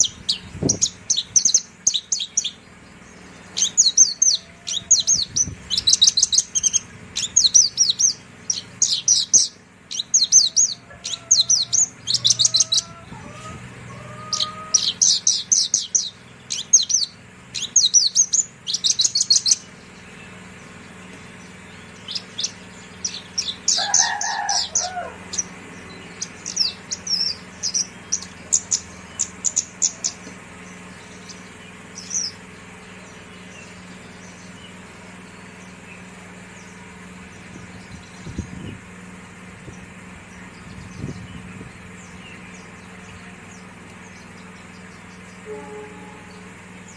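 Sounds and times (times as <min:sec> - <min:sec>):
lark singing trilled phrases: 0:00.0 - 0:20.4, 0:21.5 - 0:39.1
steady low hum: 0:00.0 - 0:46.9.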